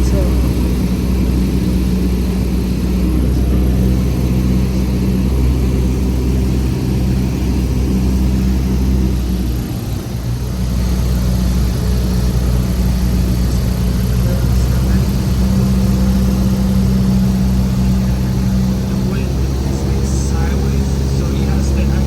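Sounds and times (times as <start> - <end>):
airplane engine and propeller: 0.0 - 22.0.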